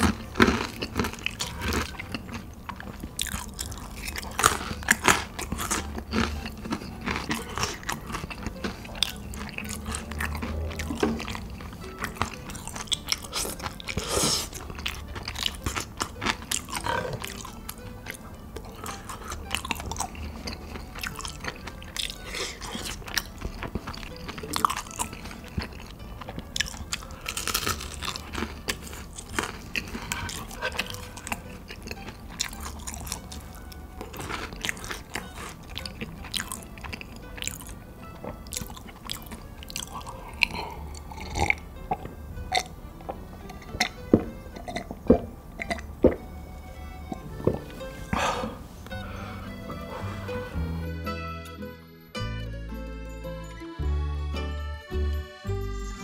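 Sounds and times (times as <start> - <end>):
person chewing food: 0.0 - 50.7
background music: 0.0 - 56.0.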